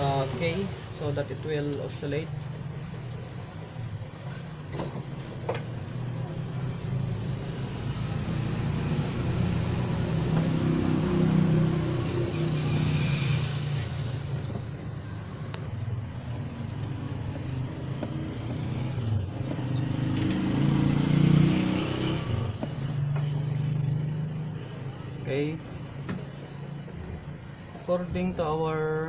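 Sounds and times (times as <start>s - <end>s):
low rumble of vehicle engines: 0.0s - 29.0s.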